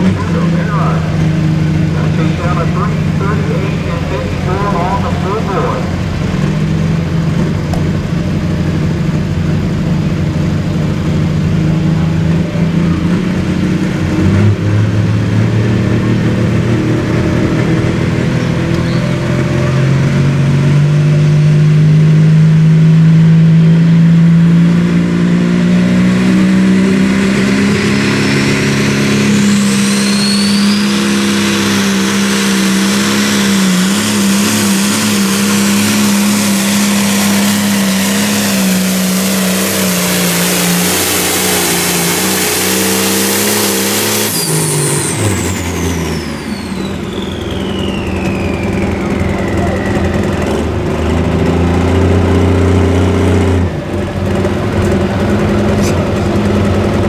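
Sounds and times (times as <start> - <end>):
diesel engine running hard: 0.0 - 57.0.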